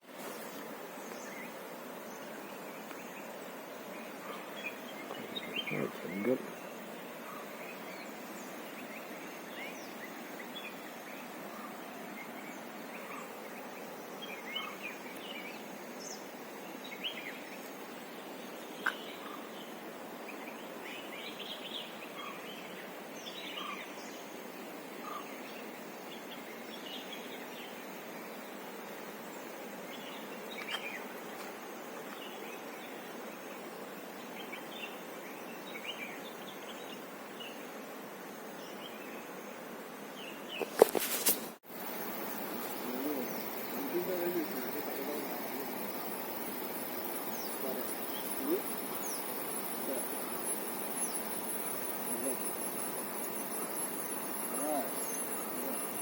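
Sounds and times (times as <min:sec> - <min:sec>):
birds chirping: 0:00.0 - 0:37.8, 0:38.4 - 0:56.0.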